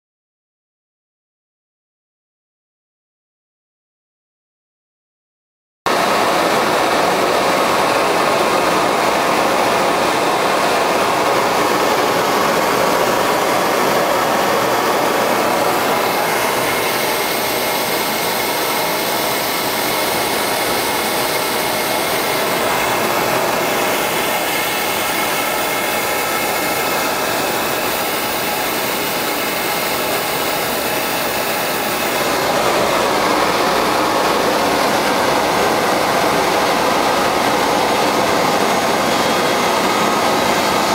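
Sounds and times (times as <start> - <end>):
gas burner rushing: 5.9 - 40.9.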